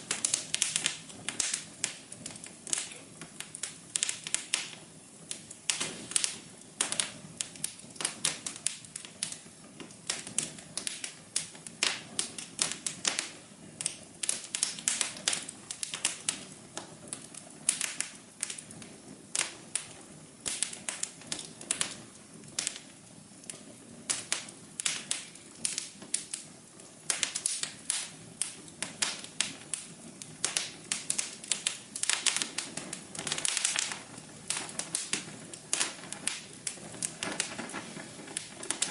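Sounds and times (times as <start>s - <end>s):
rush of flames: 0.0s - 38.9s
sharp snaps of fire: 0.0s - 38.9s
wood fire crackling and popping: 0.0s - 38.9s.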